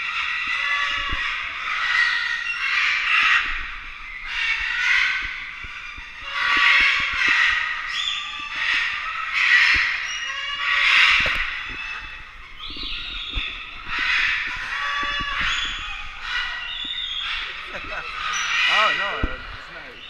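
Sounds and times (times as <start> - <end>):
parrot squawking: 0.4 - 20.0.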